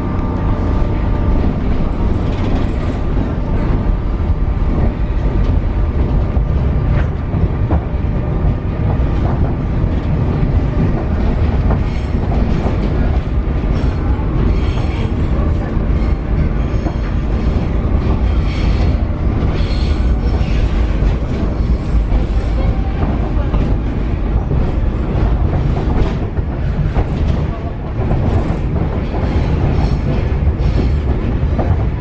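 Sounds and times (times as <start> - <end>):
metro train rumbling on track: 0.0 - 32.0.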